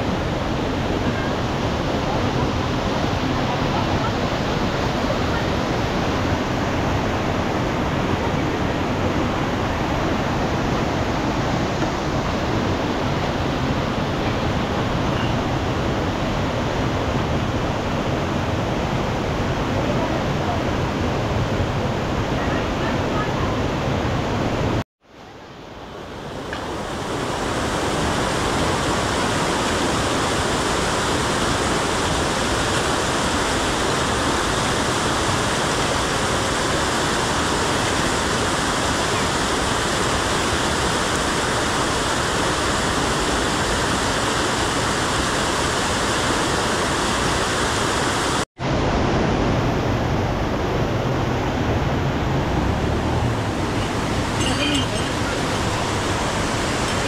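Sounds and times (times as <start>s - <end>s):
stream rushing: 0.0s - 57.0s.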